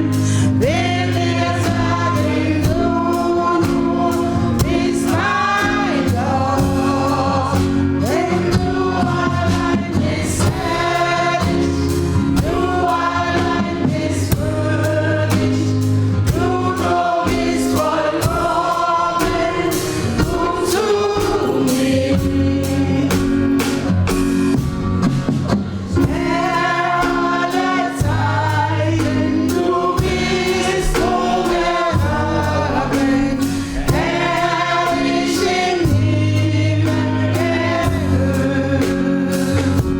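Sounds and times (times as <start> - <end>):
bass: 0.0 - 39.9
drums: 0.0 - 39.9
gospel choir singing: 0.0 - 39.9.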